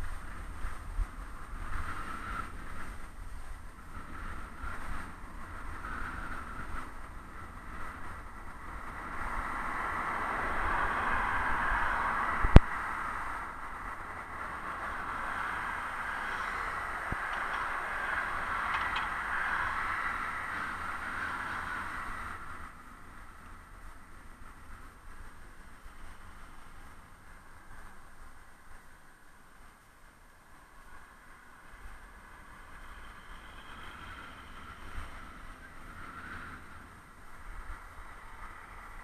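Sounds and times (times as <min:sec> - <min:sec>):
wind rumble on microphone: 0:00.0 - 0:39.0
cars passing: 0:03.9 - 0:29.4, 0:30.5 - 0:39.0.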